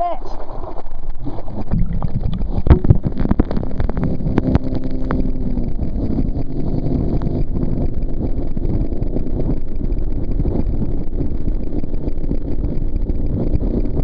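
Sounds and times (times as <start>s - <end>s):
water rushing and splashing: 0.0s - 14.0s
wind on microphone: 1.0s - 14.0s
boat engine running hard: 1.2s - 14.0s.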